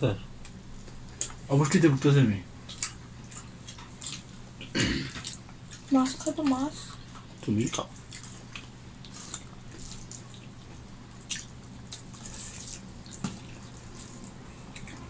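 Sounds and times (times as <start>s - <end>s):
soft wet eating clicks and smacks: 0.4s - 1.5s, 2.6s - 15.0s.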